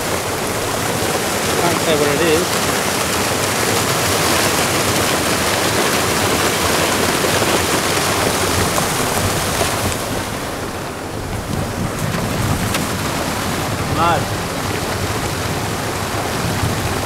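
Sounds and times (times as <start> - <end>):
sea surf rushing over rocks: 0.0 - 17.0
wind buffeting microphone: 0.0 - 17.0.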